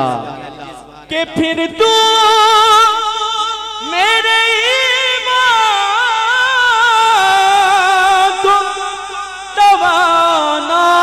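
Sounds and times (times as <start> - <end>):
man singing a hymn: 0.0 - 11.0.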